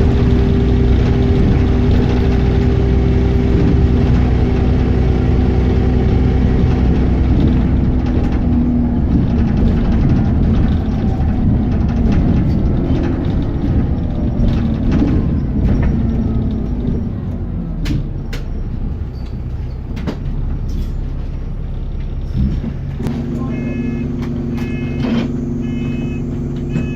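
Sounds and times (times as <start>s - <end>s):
bus drivetrain whining: 0.0s - 26.9s.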